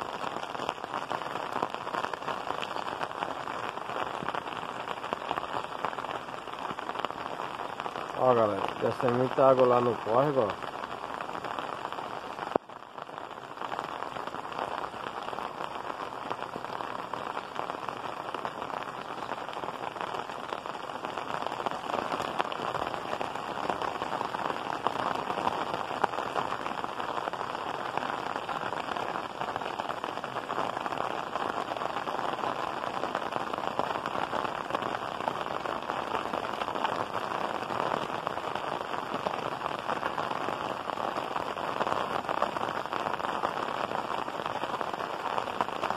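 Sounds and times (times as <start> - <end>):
heavy rain on roof tiles: 0.0 - 45.9.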